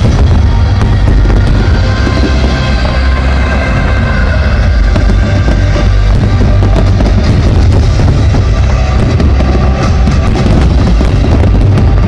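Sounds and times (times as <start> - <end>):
firework crackles: 0.0 - 12.0
loud music: 0.0 - 12.0.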